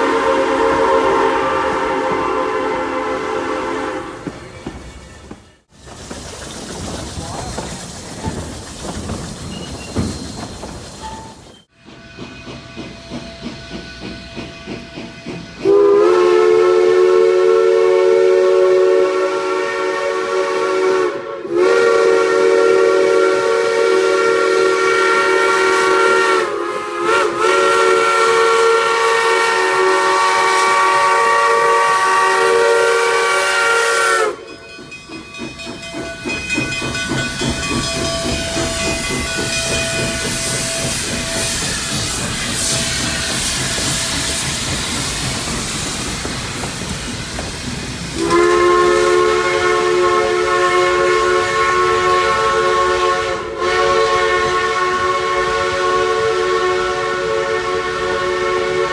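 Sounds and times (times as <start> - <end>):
steam locomotive chime whistle: 0.0 - 4.7, 11.0 - 45.8, 48.2 - 58.9
hissing steam: 0.0 - 58.9.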